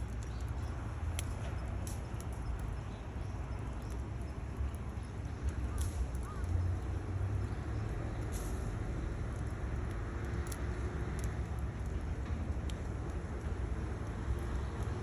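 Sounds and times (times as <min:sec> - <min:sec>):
firewood crackling in stove: 0:00.0 - 0:15.0.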